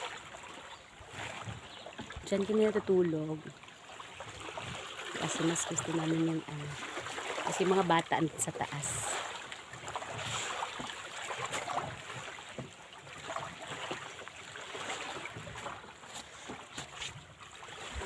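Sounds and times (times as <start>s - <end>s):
waves lapping: 0.0s - 18.0s.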